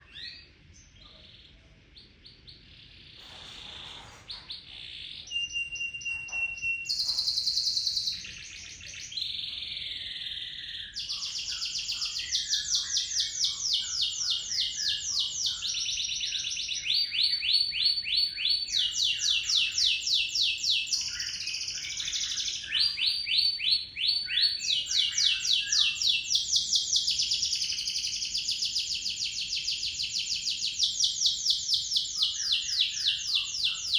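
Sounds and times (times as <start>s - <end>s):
canary singing: 0.0s - 33.9s.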